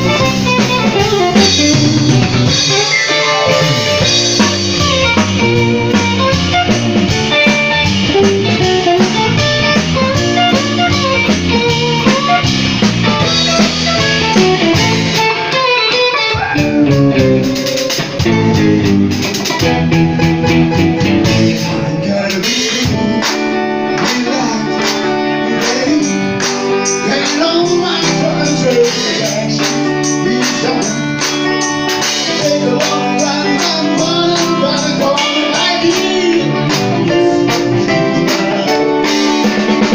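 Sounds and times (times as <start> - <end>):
electric guitar playing: 0.0 - 39.9
steady drum beat: 0.0 - 39.9.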